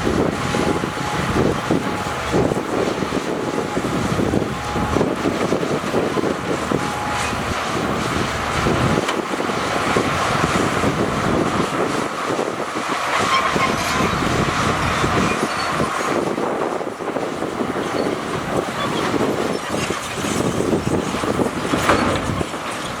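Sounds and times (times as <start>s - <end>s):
diesel engine running: 0.0s - 23.0s
machinery clatter: 0.0s - 23.0s.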